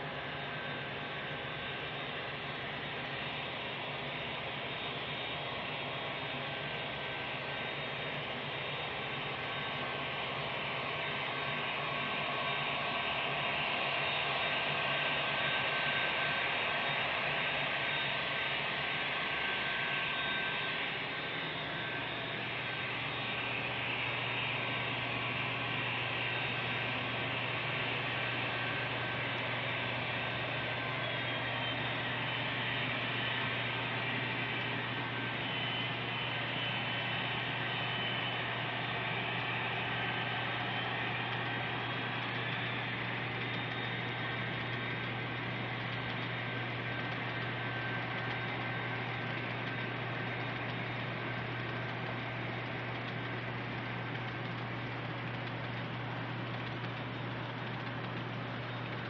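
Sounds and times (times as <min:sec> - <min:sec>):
model locomotive engine hum: 0:00.0 - 0:59.0.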